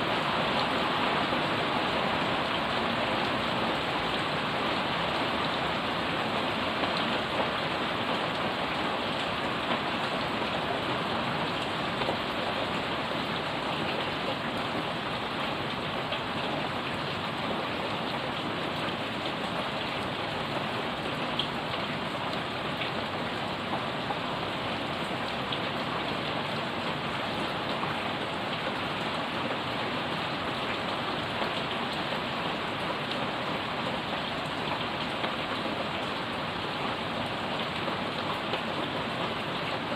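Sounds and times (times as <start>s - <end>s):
heavy rain on pavement and leaves: 0.0s - 39.9s.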